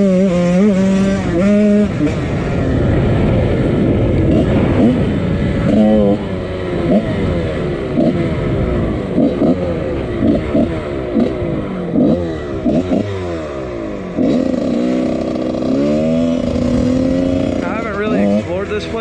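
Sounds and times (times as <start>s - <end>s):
dirt bike two-stroke engine revving: 0.0s - 19.0s.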